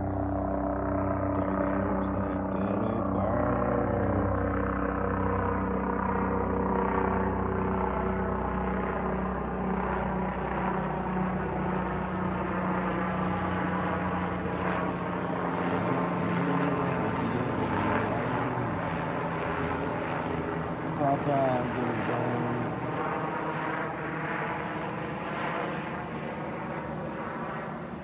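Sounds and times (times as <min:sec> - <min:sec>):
helicopter rotor drone: 0:00.0 - 0:28.0.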